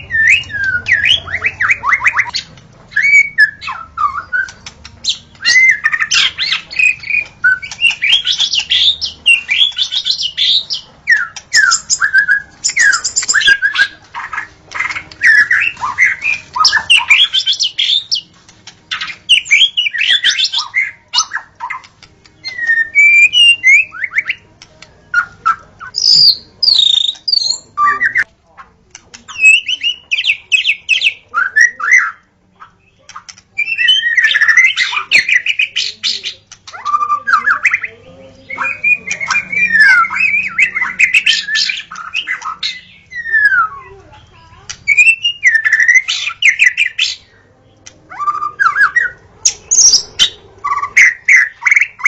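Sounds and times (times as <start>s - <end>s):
songbird singing whistles and chatter: 0.0s - 52.0s.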